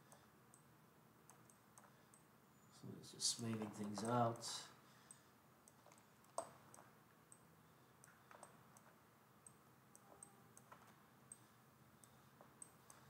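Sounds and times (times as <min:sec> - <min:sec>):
computer mouse clicks: 0:00.0 - 0:02.3, 0:03.3 - 0:13.0.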